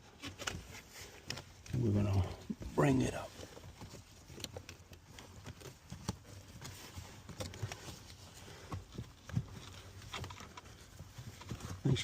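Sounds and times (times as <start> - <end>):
air filter clicks and rustling: 0.0 - 12.0.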